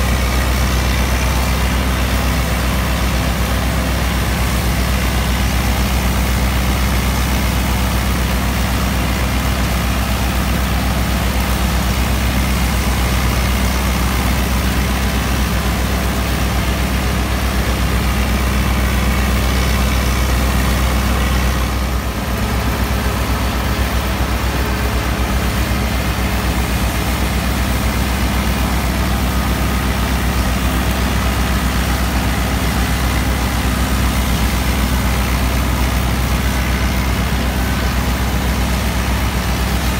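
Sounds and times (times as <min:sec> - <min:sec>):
diesel tractor engine under load: 0:00.0 - 0:39.9
straw chopper running: 0:00.0 - 0:39.9.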